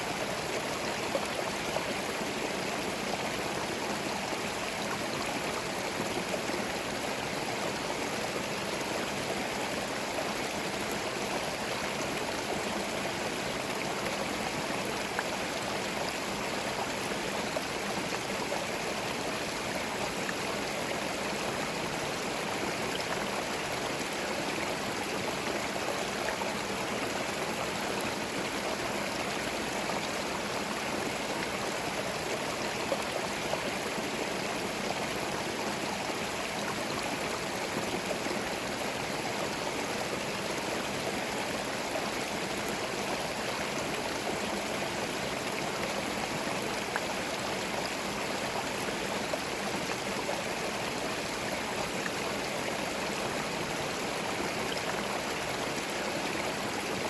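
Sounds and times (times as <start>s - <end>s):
stream gurgling over stones: 0.0s - 57.0s.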